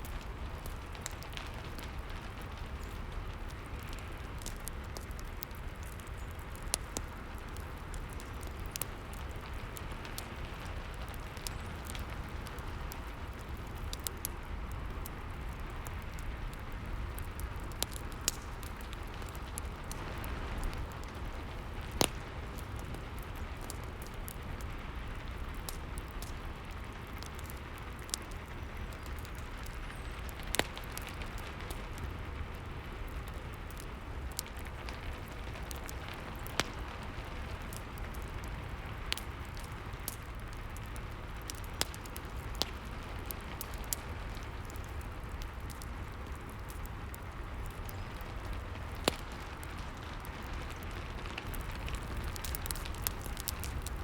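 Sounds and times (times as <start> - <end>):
fireplace crackling: 0.0 - 54.0
steady rain: 0.0 - 54.0.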